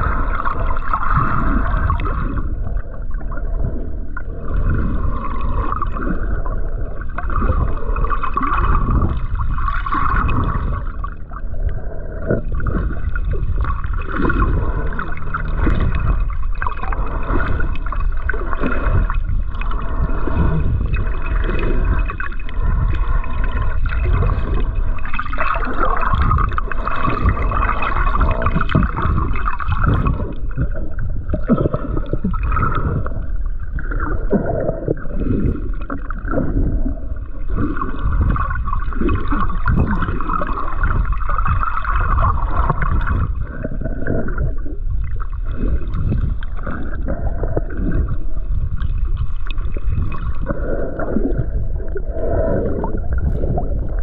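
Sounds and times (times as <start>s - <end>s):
muffled water gurgling and sloshing: 0.0s - 54.0s.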